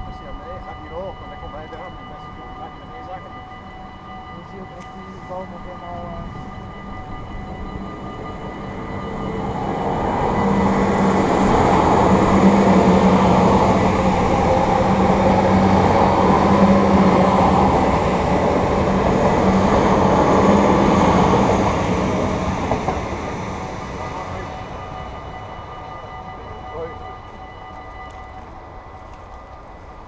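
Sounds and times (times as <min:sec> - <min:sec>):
low drone: 0:00.0 - 0:30.0
train passing: 0:00.0 - 0:30.0.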